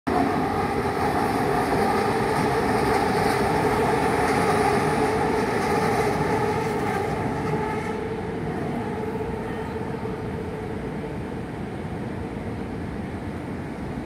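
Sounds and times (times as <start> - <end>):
train rumbling on track: 0.1 - 14.0.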